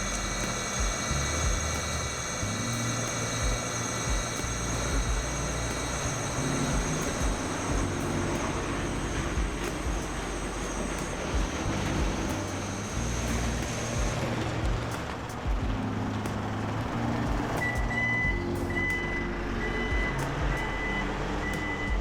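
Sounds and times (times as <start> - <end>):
centrifuge motor whining: 0.0 - 22.0
rushing noise: 0.0 - 22.0.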